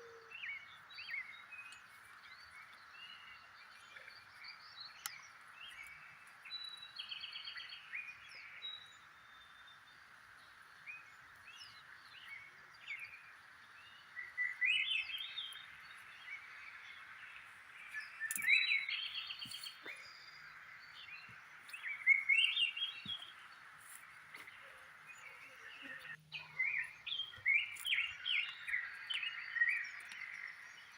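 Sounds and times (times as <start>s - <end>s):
wild birds chirping: 0.0s - 30.9s.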